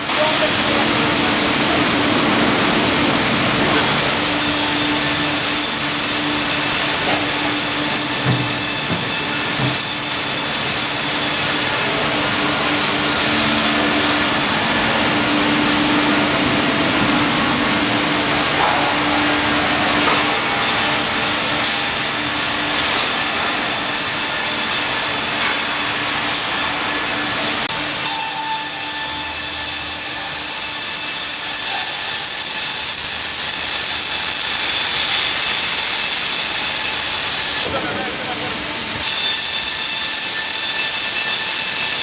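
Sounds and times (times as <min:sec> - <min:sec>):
bandsaw cutting log with whine: 0:00.0 - 0:42.0.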